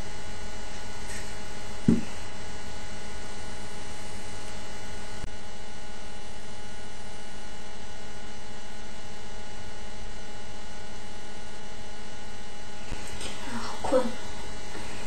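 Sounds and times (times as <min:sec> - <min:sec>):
electrical mains hum and hiss: 0:00.0 - 0:15.0.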